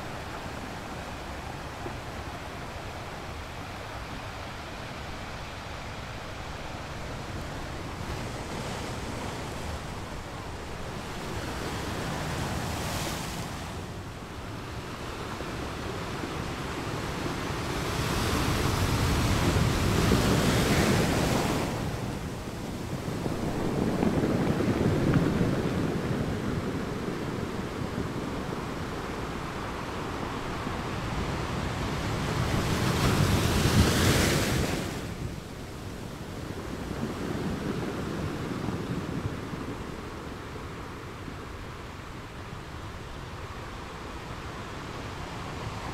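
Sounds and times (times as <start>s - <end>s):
ocean waves: 0.0s - 45.9s.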